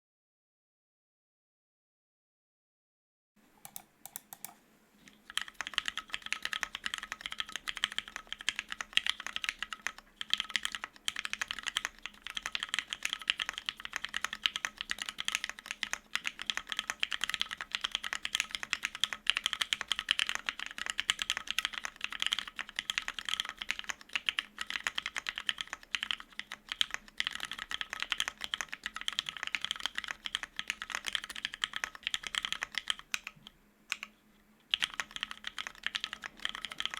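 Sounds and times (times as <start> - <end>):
fast mechanical keyboard typing: 3.6 - 34.1, 34.7 - 36.9.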